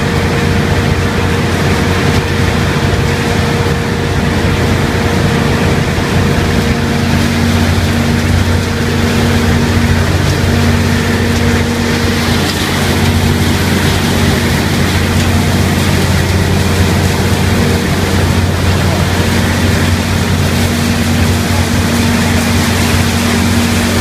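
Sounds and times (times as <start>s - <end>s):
even rushing noise: 0.0s - 24.0s
machinery drone: 0.0s - 24.0s.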